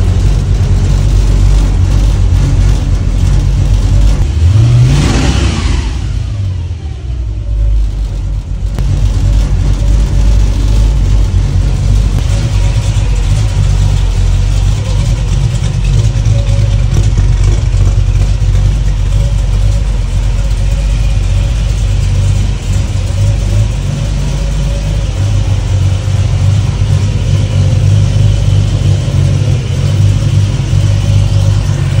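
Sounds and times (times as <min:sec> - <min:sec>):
truck engine idling roughly: 0:00.0 - 0:32.0.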